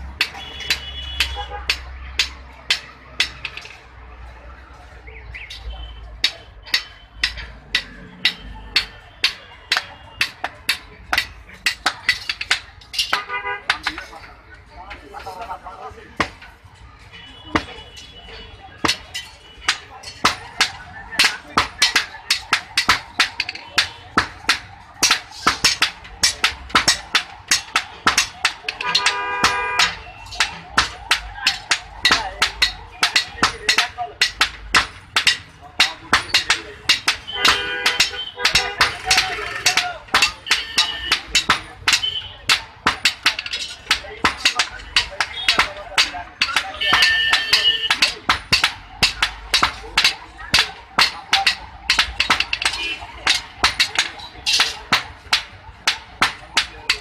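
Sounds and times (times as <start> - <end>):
hammer striking iron on anvil: 0.1 - 3.8, 6.2 - 14.0, 18.8 - 57.0.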